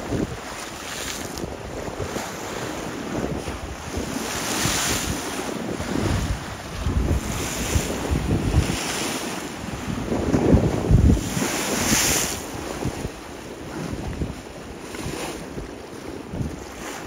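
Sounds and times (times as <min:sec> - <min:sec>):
lake waves sloshing and breaking: 0:00.0 - 0:17.0
wind buffeting microphone: 0:00.0 - 0:17.0.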